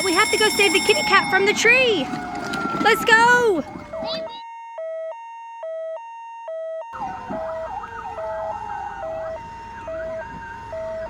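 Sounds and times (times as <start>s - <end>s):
toy two-tone siren: 0.0s - 11.0s.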